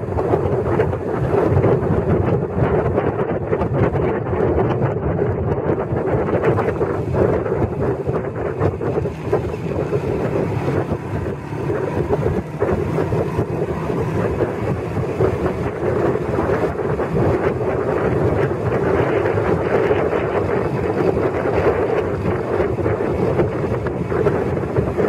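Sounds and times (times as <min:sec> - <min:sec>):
motorcycle engine drone: 0:00.0 - 0:25.0
wind buffeting microphone: 0:00.0 - 0:25.0.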